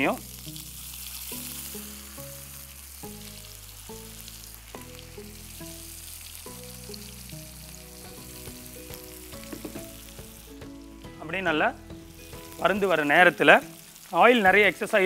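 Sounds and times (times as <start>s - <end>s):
fish frying on a griddle: 0.0s - 15.0s
soft background music: 0.0s - 15.0s.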